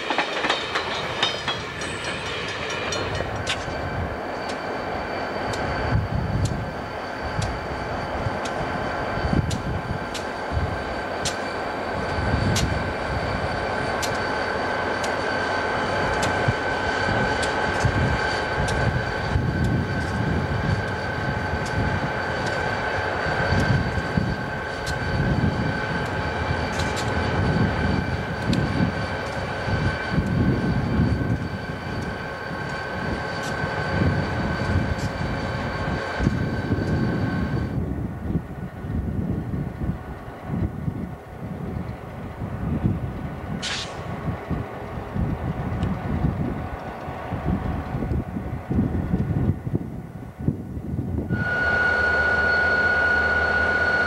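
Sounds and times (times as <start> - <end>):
diesel locomotive idling: 0.0 - 54.0
high steady whine: 0.0 - 54.0.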